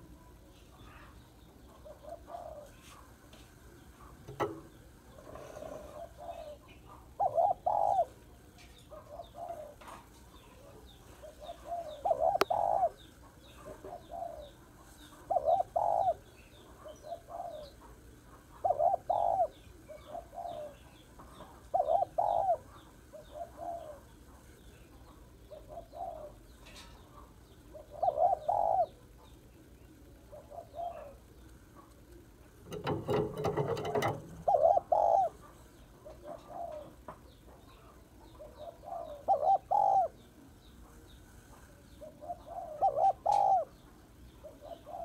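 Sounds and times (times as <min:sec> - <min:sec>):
dove cooing: 0:00.9 - 0:03.0, 0:03.9 - 0:26.5, 0:27.2 - 0:41.1, 0:41.8 - 0:45.0.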